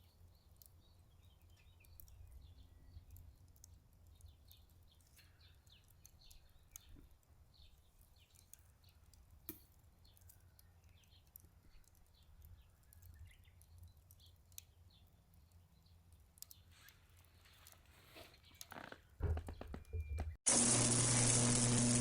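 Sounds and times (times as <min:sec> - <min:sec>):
wood fire crackling and popping: 0:00.0 - 0:17.8, 0:18.5 - 0:22.0.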